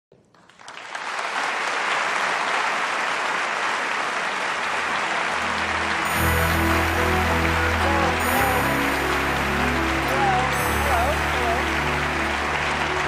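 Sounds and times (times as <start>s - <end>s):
audience applauding: 0.2s - 13.0s.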